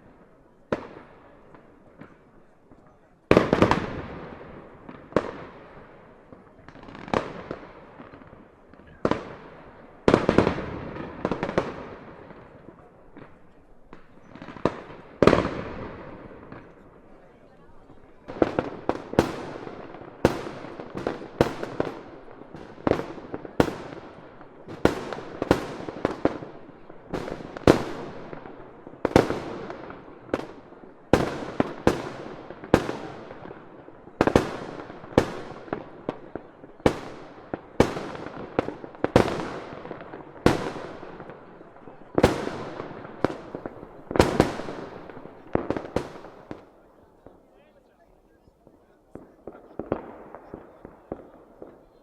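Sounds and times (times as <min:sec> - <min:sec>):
fireworks bangs with echo: 0:00.0 - 0:52.0.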